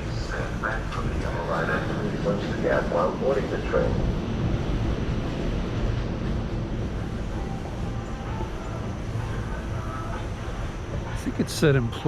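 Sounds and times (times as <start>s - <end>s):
faint steady tones: 0.0s - 12.0s
rail platform rumble: 0.0s - 12.0s.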